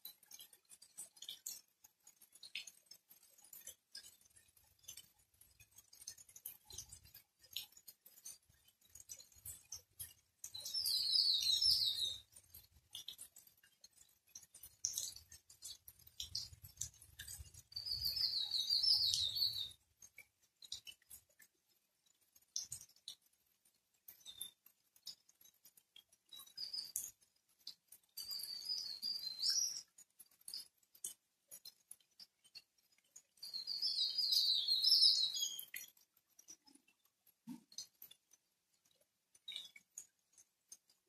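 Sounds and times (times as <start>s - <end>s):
light rain pattering: 0.0s - 41.0s.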